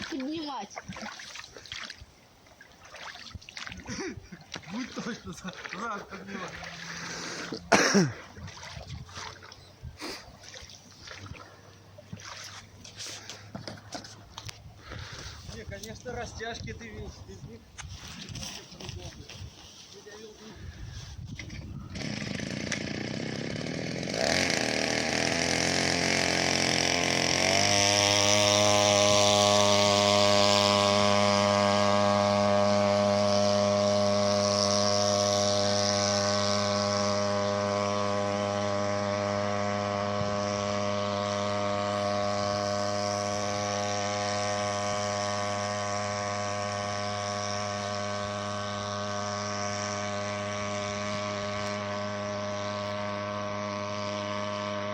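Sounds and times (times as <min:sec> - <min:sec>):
outboard motor revving: 0:00.0 - 0:19.2, 0:20.2 - 0:54.9.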